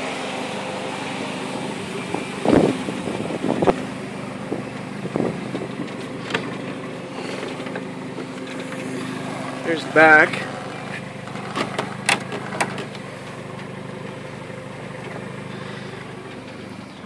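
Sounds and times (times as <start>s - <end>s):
car engine idling loudly: 0.0s - 17.0s.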